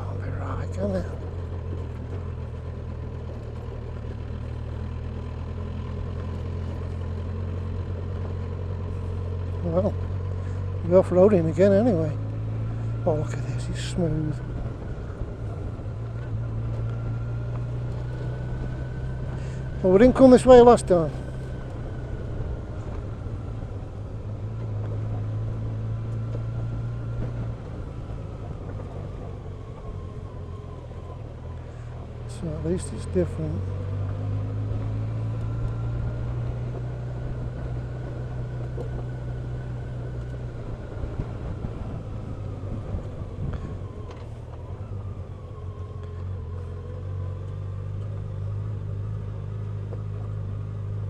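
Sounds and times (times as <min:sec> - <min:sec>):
motorcycle engine running: 0:00.0 - 0:51.0
road and wind noise: 0:00.0 - 0:51.0.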